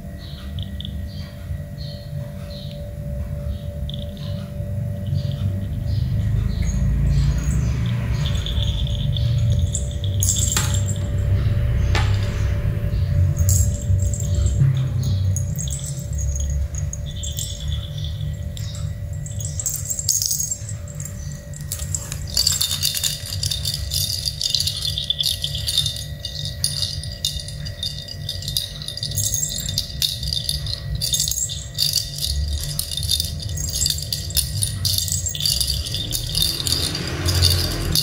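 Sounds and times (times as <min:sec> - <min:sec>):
cat toys rattling and jingling: 0:00.0 - 0:38.0.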